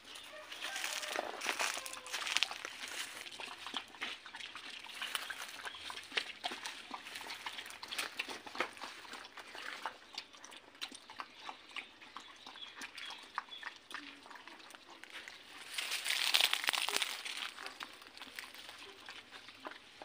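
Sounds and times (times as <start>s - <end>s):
dogs chewing and lapping: 0.0s - 20.0s.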